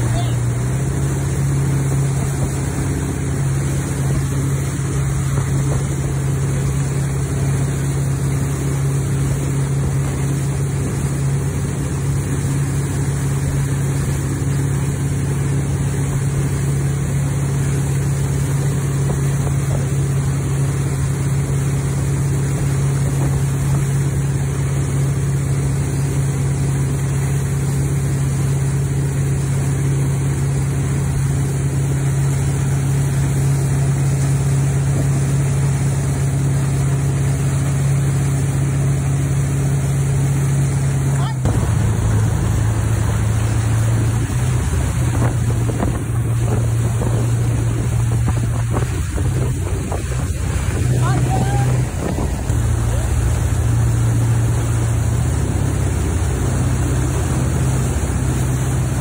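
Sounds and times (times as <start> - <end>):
boat engine drone: 0.0 - 59.0
water churning: 0.0 - 59.0.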